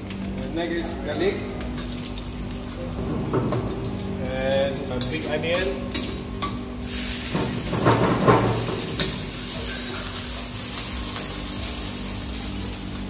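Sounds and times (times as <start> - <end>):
low steady hum: 0.0 - 13.0
onion sizzling in hot oil: 0.0 - 13.0.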